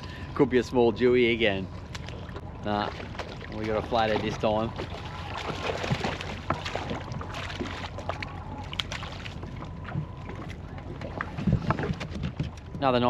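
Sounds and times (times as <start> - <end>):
water lapping: 0.0 - 13.0
wind buffeting microphone: 2.4 - 13.0.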